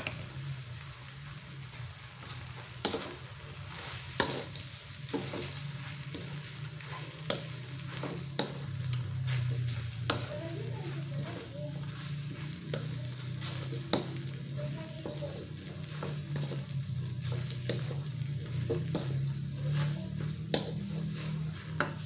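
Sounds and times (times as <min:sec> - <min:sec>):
food sizzling in a wok: 0:00.0 - 0:22.0
spatula stirring noodles: 0:00.0 - 0:22.0.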